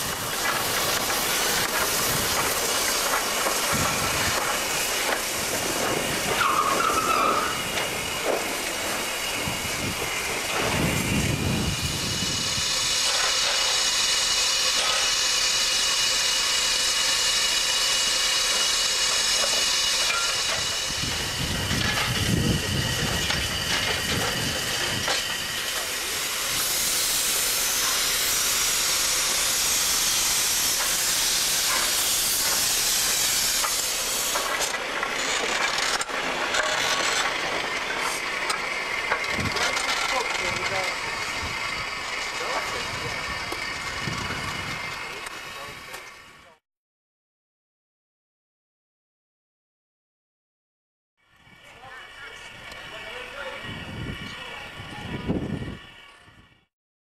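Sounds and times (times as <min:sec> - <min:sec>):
steam locomotive hissing: 0:00.0 - 0:46.6, 0:51.6 - 0:56.5.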